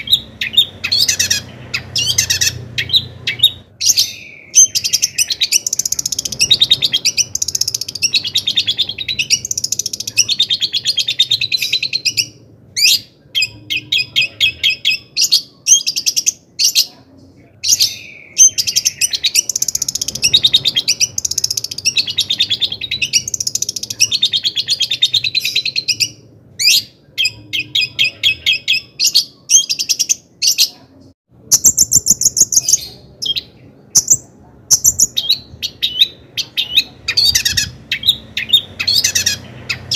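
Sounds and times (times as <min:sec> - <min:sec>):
bird chattering song: 0:00.0 - 0:17.0, 0:17.6 - 0:30.8, 0:31.5 - 0:39.9.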